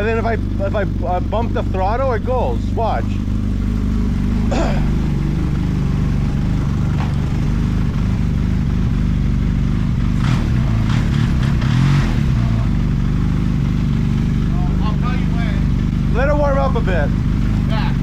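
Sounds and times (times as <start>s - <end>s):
snowmobile engine idling: 0.0s - 18.0s.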